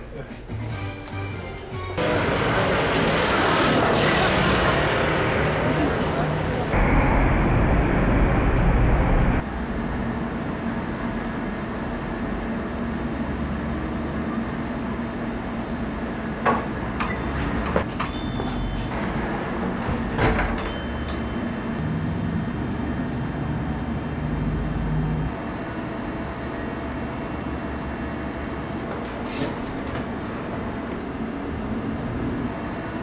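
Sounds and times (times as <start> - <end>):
street traffic noise: 0.4 - 33.0.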